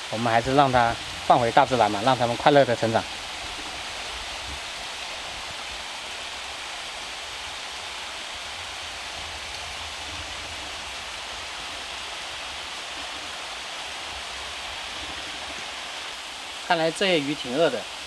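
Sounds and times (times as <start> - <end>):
stream flowing over stones: 0.0 - 18.0.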